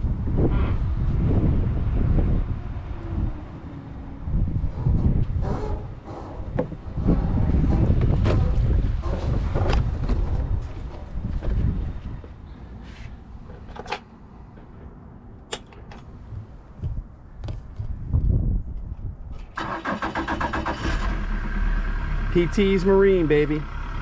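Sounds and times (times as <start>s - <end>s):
wind rumble: 0.0s - 23.2s.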